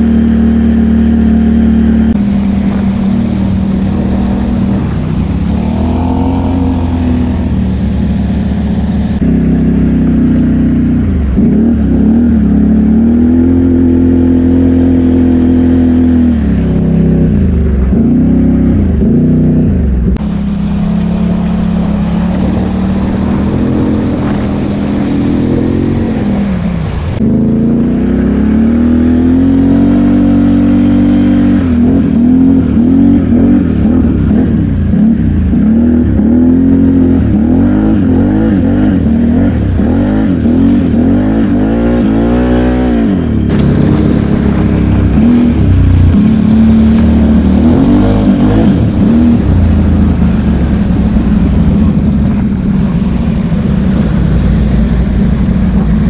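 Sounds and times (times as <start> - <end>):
atv engine revving: 0.0 - 56.0
water splashing: 0.6 - 12.2, 20.2 - 56.0.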